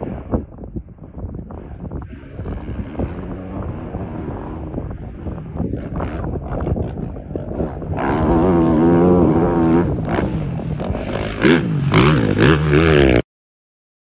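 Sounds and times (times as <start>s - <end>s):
motorcycle engine revving past: 1.5s - 13.2s.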